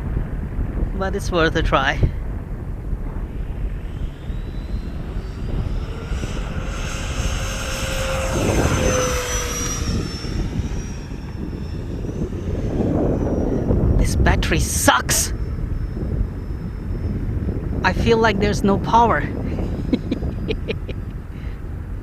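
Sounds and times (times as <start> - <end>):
electric ducted fan jet whining: 0.0 - 22.0.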